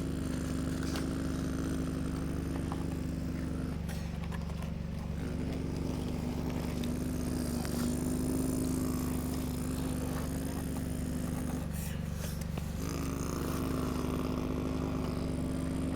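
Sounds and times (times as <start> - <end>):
excavator engine running: 0.0 - 15.9.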